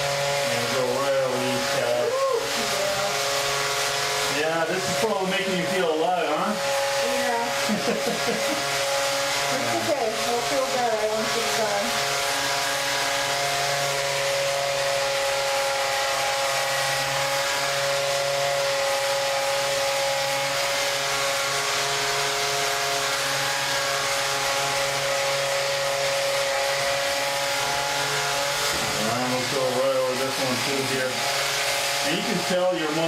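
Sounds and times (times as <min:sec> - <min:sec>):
vibration device motor whine: 0:00.0 - 0:33.0.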